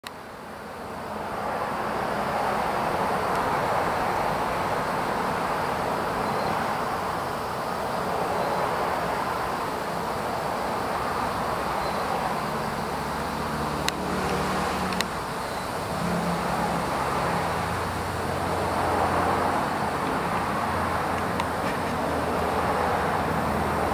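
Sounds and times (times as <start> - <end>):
distant road traffic: 0.0 - 23.9
low engine hum: 0.2 - 23.9.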